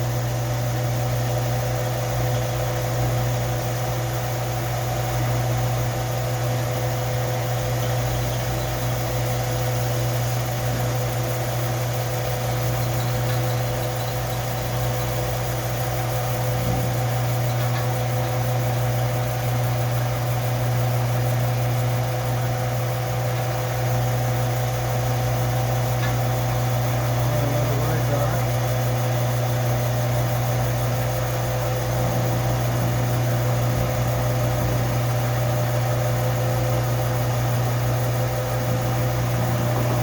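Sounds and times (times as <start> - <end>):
belt sander running: 0.0 - 40.0.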